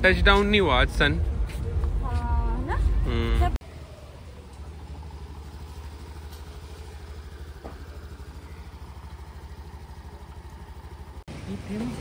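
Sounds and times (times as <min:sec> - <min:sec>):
scooter engine idling: 0:02.0 - 0:12.0.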